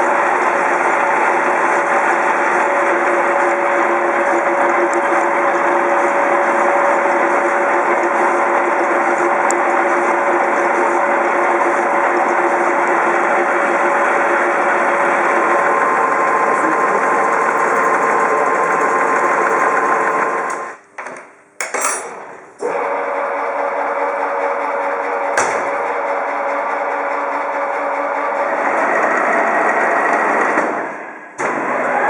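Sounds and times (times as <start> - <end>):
boring mill cutting noise: 0.0 - 20.8, 22.1 - 32.0.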